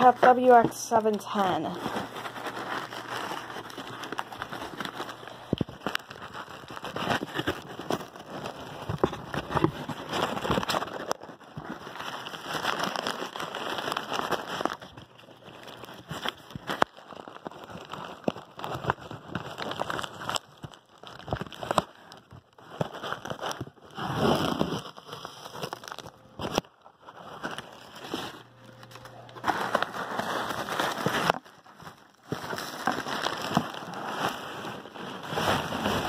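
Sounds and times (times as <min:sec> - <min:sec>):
packing paper crinkling: 0:00.0 - 0:36.0.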